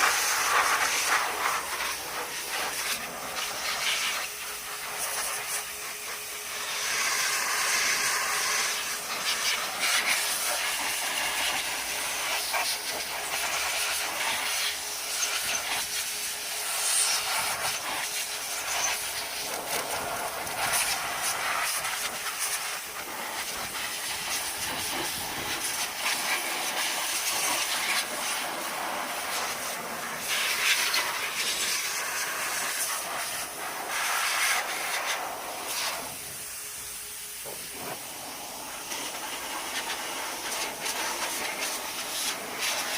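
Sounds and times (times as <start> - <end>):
pressure washer jet hissing: 0.0 - 42.9.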